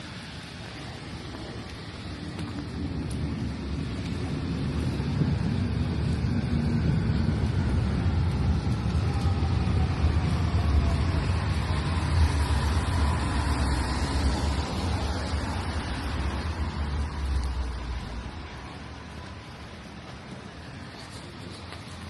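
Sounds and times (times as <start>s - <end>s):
tyre hiss on wet road: 0.0s - 22.0s
vehicle engine rumble: 0.0s - 22.0s.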